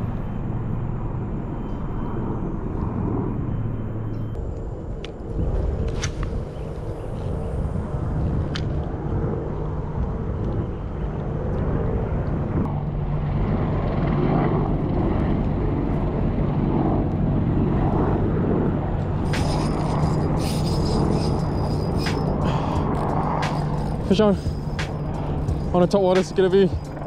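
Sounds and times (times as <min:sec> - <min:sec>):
low motor drone: 0:00.0 - 0:27.0.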